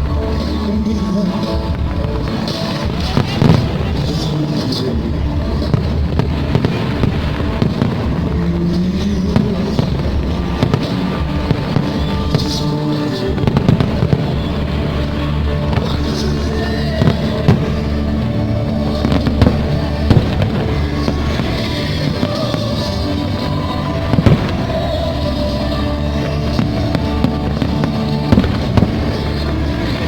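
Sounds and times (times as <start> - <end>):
fireworks bursting: 0.0 - 30.0
loud music soundtrack: 0.0 - 30.0.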